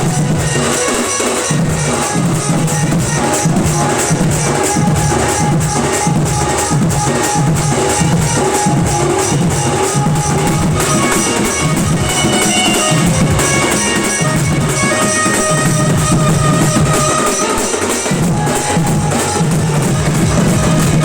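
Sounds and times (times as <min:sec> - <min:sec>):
band playing instrumental music: 0:00.0 - 0:21.0
pulsing drum beat: 0:00.0 - 0:21.0
sustained melody line: 0:00.0 - 0:21.0.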